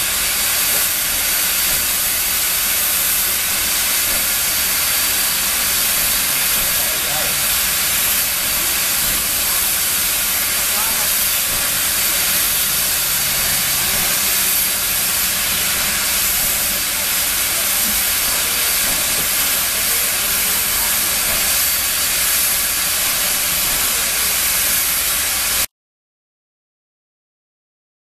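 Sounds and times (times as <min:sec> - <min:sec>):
steam locomotive hissing: 0:00.0 - 0:25.7.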